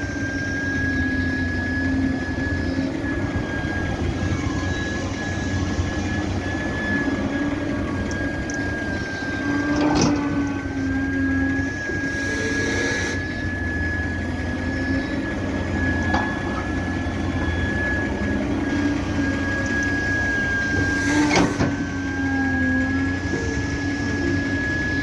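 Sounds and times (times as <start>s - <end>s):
thin high whine: 0.0s - 22.3s
excavator diesel engine hum: 0.0s - 25.0s.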